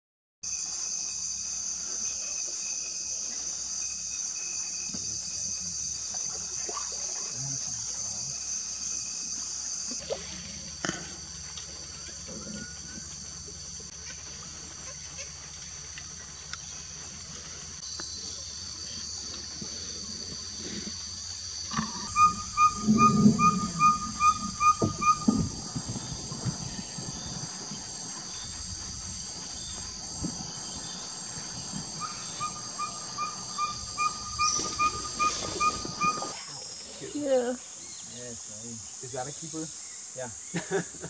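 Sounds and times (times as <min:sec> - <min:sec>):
insect chorus drone: 0:00.4 - 0:41.0.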